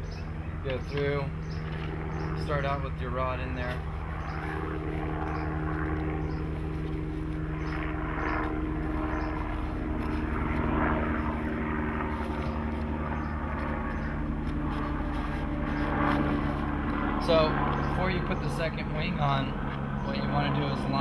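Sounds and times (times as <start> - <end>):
propeller aeroplane engine drone: 0.0 - 21.0.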